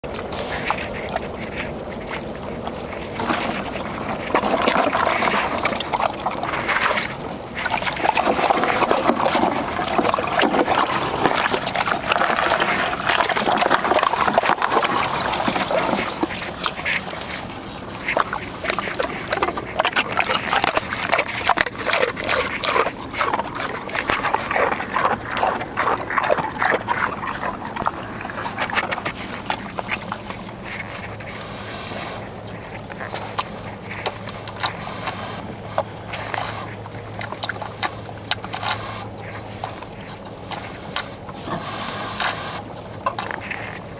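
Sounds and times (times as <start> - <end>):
water sloshing: 0.0 - 43.9
hog crunching ice: 0.1 - 43.9.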